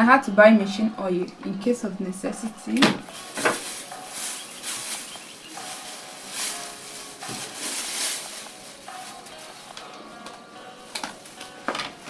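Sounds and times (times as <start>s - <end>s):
rustling of items handled: 1.0s - 12.0s.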